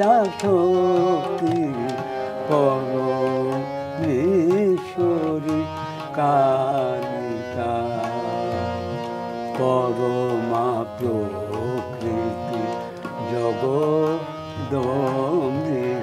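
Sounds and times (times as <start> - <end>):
percussion strokes: 0.0 - 15.9
harmonium: 0.0 - 16.0
man singing devotional song: 0.0 - 16.0.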